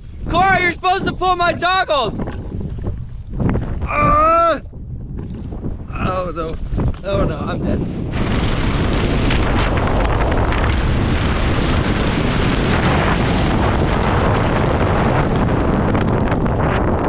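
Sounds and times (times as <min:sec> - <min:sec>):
wind roaring over microphone: 0:00.0 - 0:17.0.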